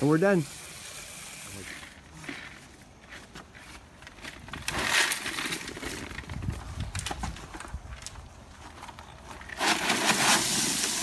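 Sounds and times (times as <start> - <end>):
gravel scraping: 1.6 - 11.0.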